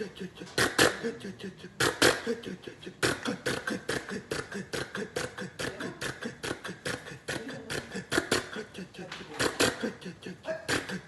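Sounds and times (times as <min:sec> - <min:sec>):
man imitating tractor engine: 0:00.0 - 0:11.0.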